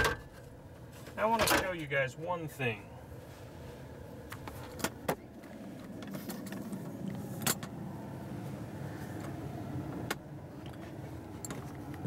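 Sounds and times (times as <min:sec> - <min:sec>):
steady low hum in cab: 0:00.0 - 0:12.0.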